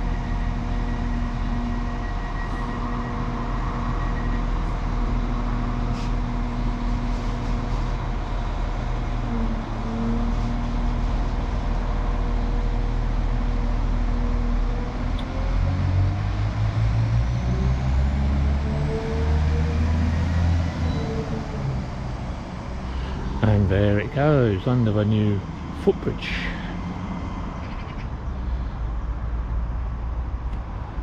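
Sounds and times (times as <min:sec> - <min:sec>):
diesel train engine drone: 0:00.0 - 0:31.0.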